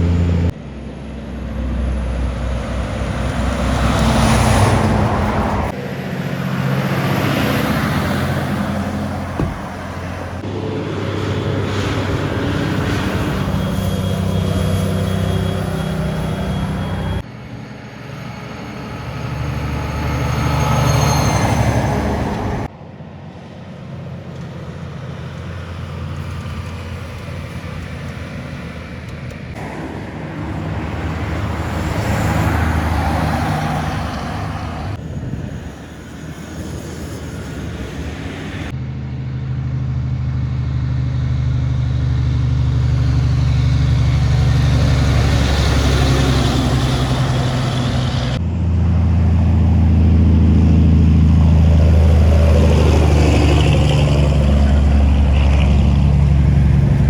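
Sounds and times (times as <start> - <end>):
heavy trucks passing: 0.0 - 57.0
rush of tyres and traffic: 0.0 - 57.0.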